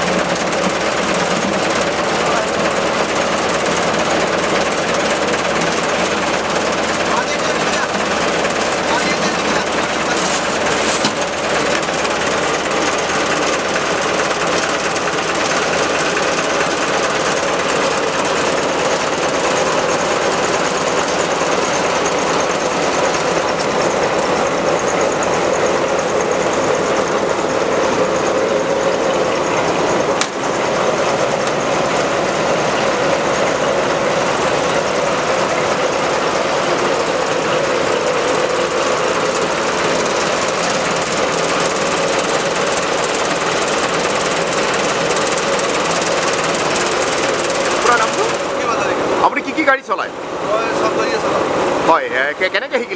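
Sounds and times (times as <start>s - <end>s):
diesel engine rattling knock: 0.0s - 52.9s.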